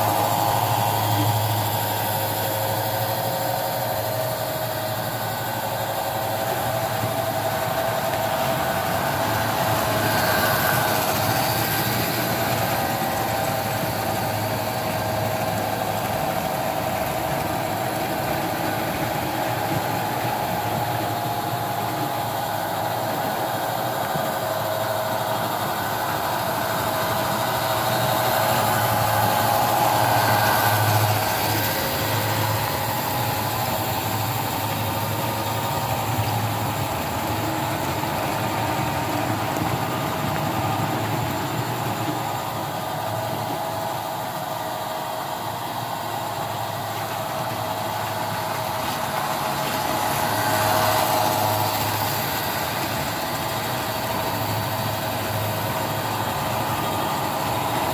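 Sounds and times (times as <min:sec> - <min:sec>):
model train wheels rumbling on track: 0:00.0 - 0:57.9.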